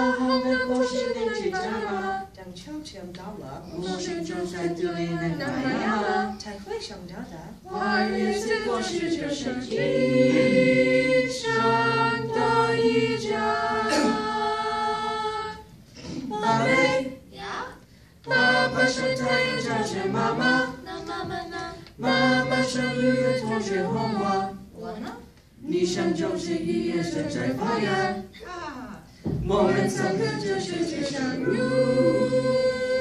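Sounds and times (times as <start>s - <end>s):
students singing together: 0.0s - 2.6s, 3.3s - 6.5s, 7.6s - 28.4s, 29.1s - 33.0s.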